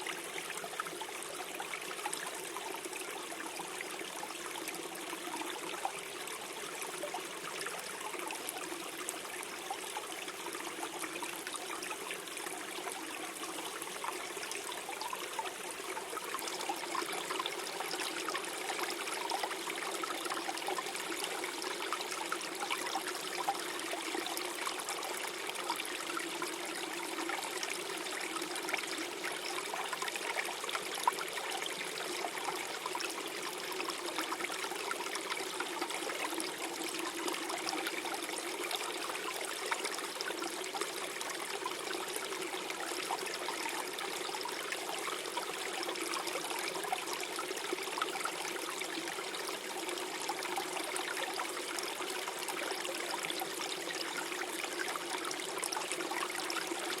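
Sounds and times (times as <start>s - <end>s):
stream gurgling over stones: 0.0s - 57.0s.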